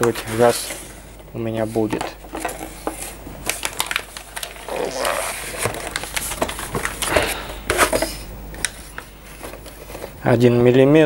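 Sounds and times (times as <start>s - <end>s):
plastic crinkling and rustling: 0.0s - 10.4s.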